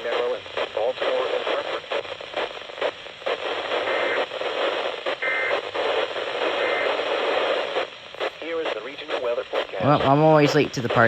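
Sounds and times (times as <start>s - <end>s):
faint radio tones: 0.0s - 11.0s
radio static hiss: 0.0s - 11.0s.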